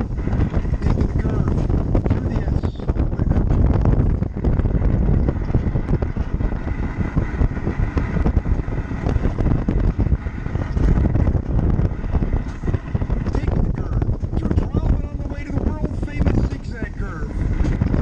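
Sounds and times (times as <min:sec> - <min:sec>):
sled wheels rumbling on rails: 0:00.0 - 0:18.0
wind buffeting microphone: 0:00.0 - 0:18.0.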